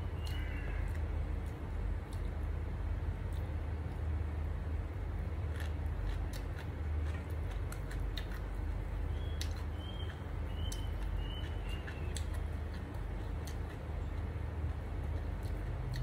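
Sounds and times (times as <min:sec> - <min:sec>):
steady low hum: 0:00.0 - 0:16.0
person chewing food: 0:00.2 - 0:02.5, 0:03.2 - 0:04.0, 0:05.3 - 0:16.0.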